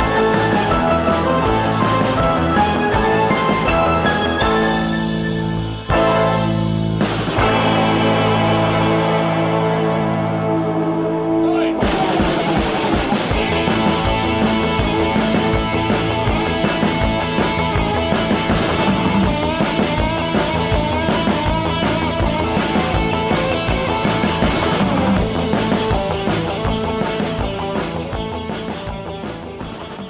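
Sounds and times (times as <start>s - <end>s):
steady drum beat: 0.0s - 9.7s, 11.6s - 30.0s
rock music with guitar: 0.0s - 30.0s.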